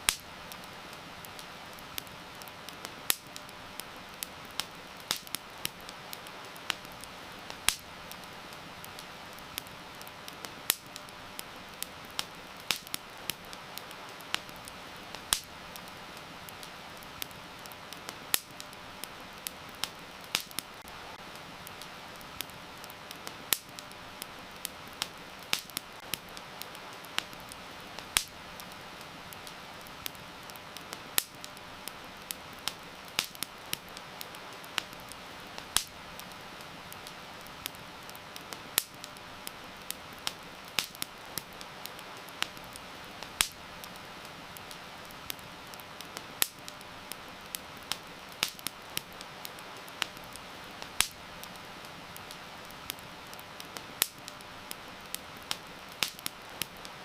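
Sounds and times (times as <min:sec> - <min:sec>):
heavy rain hiss: 0:00.0 - 0:57.0
wood fire crackling and popping: 0:00.0 - 0:57.0.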